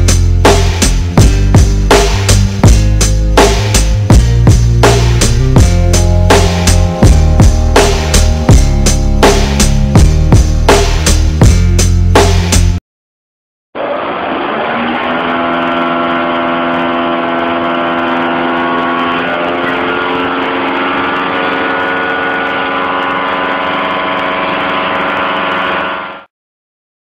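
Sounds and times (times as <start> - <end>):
car engine running: 0.0 - 11.5, 13.8 - 26.2.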